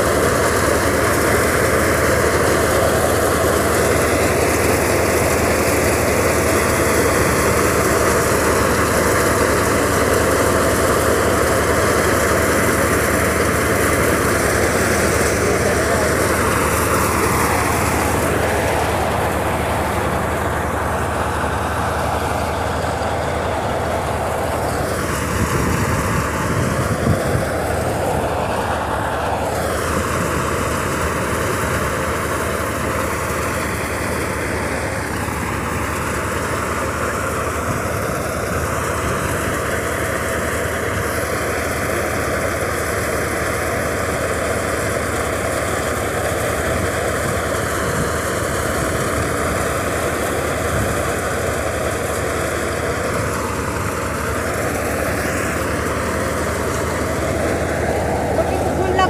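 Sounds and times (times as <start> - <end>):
thresher running: 0.0 - 59.0
tractor engine: 0.0 - 59.0.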